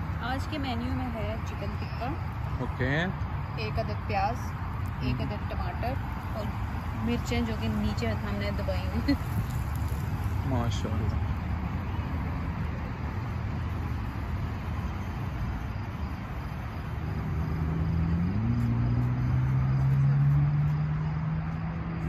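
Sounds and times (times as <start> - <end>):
crickets chirping: 0.0 - 22.0
low outdoor rumble: 0.0 - 22.0
vehicle engine hum: 0.0 - 22.0.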